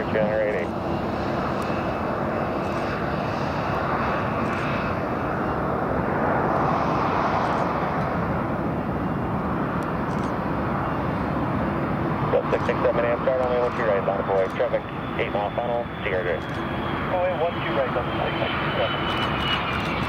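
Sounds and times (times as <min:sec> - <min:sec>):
airliner engines rushing: 0:00.0 - 0:20.0.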